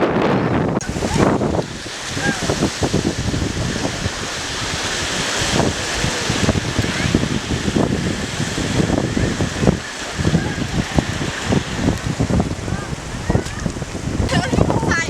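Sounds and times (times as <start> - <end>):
surf washing on sandy beach: 0.0 - 15.0
wind buffeting microphone: 0.0 - 15.0.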